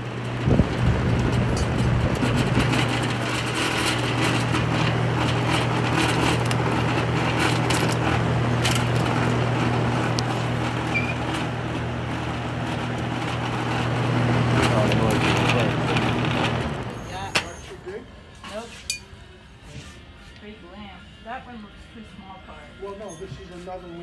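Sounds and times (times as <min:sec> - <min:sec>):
box fan running: 0:00.0 - 0:24.0.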